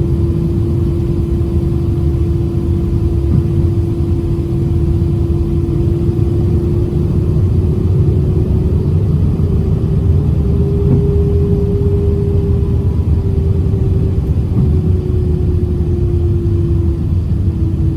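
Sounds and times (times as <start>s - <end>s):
jet engines heard from cabin: 0.0s - 17.9s.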